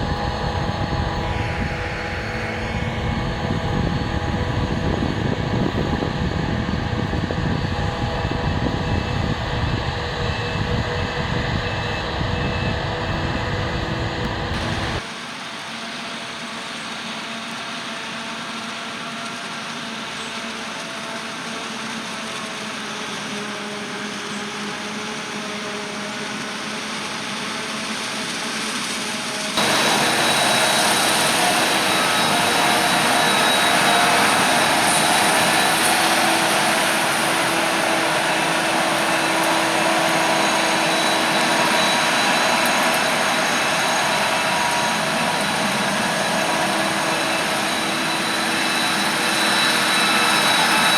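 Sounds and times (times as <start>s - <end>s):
farm machinery engine whine and hum: 0.0s - 50.9s.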